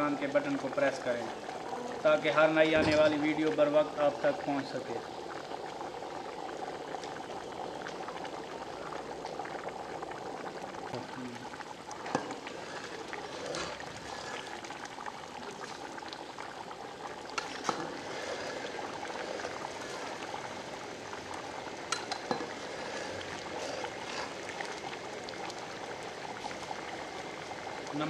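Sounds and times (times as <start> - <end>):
rice boiling in a pot: 0.0 - 28.0.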